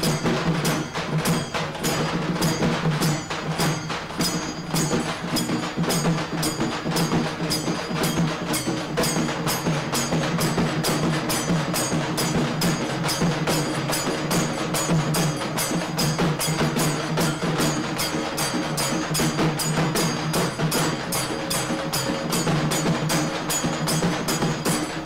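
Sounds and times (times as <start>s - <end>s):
ringing percussion strikes: 0.0s - 25.0s.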